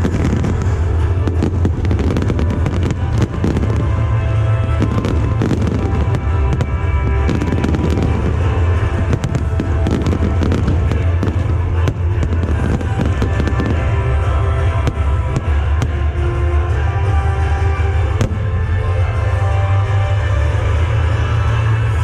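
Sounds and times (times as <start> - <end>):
fireworks bangs and crackles: 0.0 - 22.0
loud music with heavy bass: 0.0 - 22.0.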